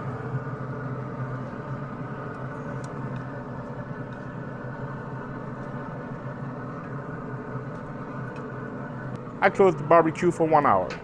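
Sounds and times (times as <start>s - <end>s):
pellet grill fan humming: 0.0s - 11.0s.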